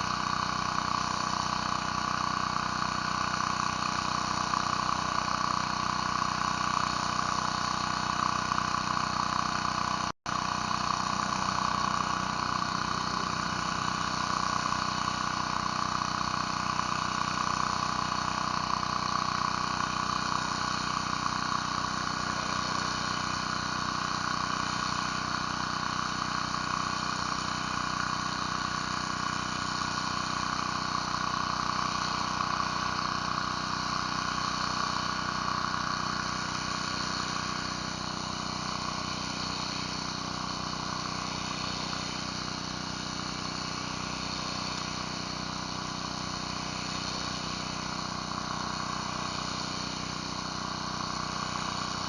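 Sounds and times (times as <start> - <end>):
pressure washer engine running: 0.0 - 52.0
water spray hissing on concrete: 0.0 - 52.0.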